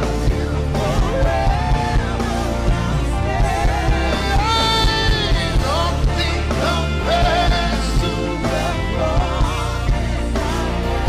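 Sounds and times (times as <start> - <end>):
band playing: 0.0 - 11.0
steady bass: 0.0 - 11.0.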